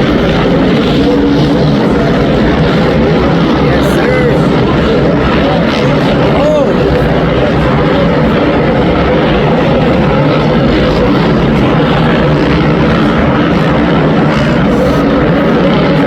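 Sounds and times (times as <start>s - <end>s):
motorcycle engines racing: 0.0s - 16.0s.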